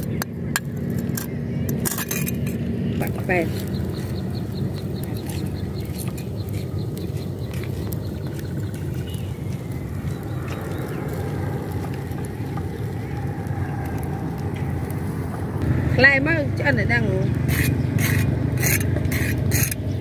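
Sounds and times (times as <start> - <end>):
wood fire crackling: 0.0 - 19.8
wind rumble on microphone: 0.0 - 20.0.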